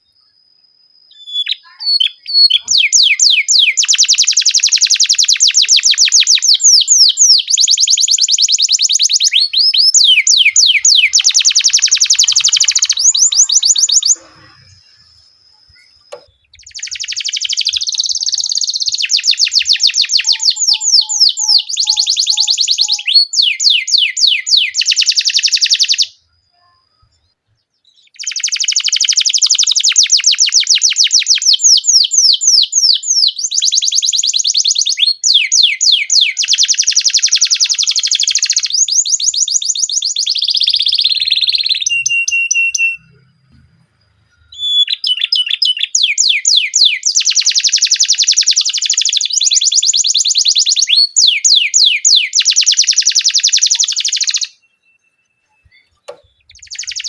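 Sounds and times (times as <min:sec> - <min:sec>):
canary singing rapid trills: 0:01.1 - 0:26.3, 0:27.9 - 0:57.0.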